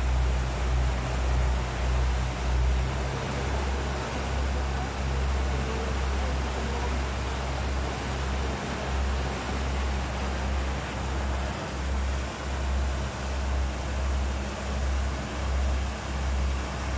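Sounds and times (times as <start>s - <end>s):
boat engine running: 0.0s - 16.9s.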